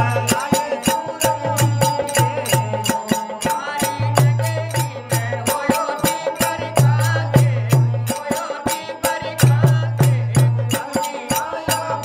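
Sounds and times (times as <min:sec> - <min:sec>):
hand drum beating rhythm: 0:00.0 - 0:12.0.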